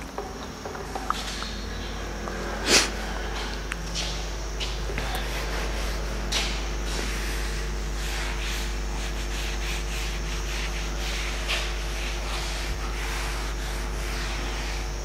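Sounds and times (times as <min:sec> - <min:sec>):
steady low hum: 0:00.0 - 0:15.0
duster wiping a whiteboard: 0:00.2 - 0:15.0.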